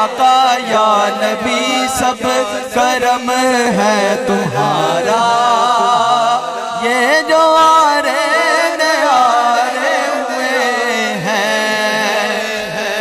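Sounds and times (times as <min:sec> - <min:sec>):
man singing through microphone: 0:00.0 - 0:13.0.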